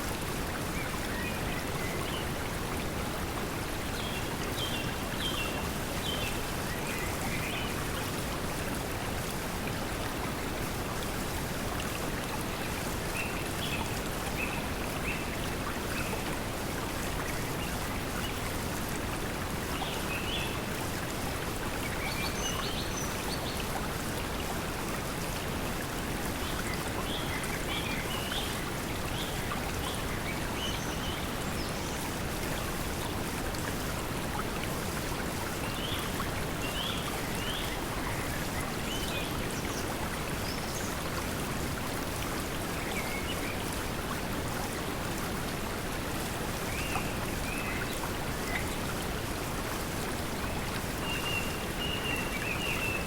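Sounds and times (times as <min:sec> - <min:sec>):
flowing water: 0:00.0 - 0:53.0.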